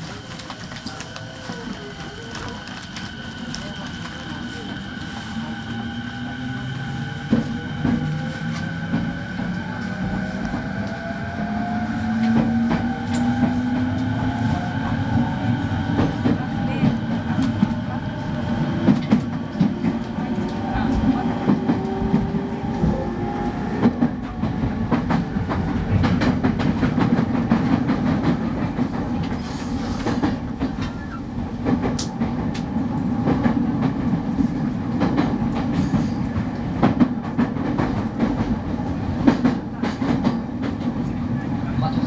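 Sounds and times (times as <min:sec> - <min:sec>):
rail joint clickety-clack: 0:00.0 - 0:42.0
wheels rumbling on rail: 0:00.0 - 0:42.0.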